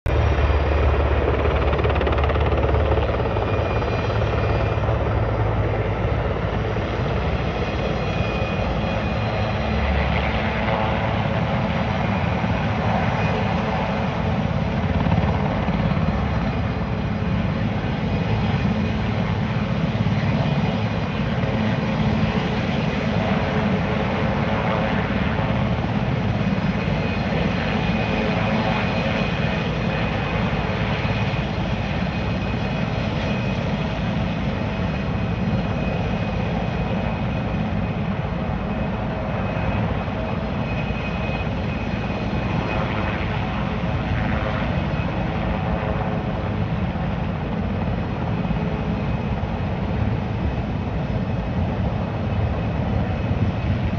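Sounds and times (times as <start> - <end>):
helicopter hovering: 0.1 - 53.9.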